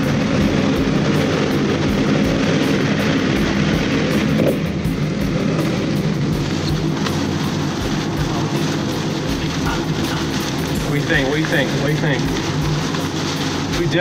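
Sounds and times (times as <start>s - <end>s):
engine drone inside cab: 0.0s - 14.0s
tyre and wind hiss: 0.0s - 14.0s.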